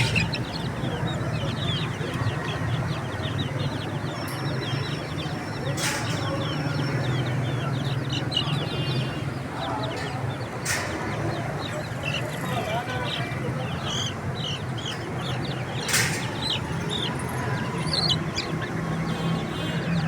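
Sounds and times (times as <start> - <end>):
baby chicks peeping: 0.0 - 20.0.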